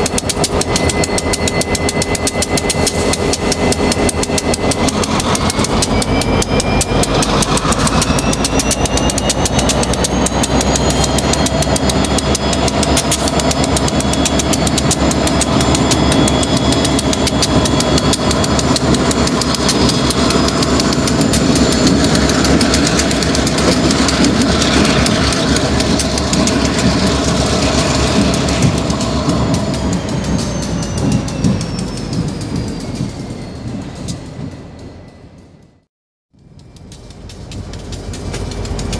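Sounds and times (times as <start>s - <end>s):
diesel locomotives running: 0.0s - 38.9s
rising whine: 0.0s - 38.9s.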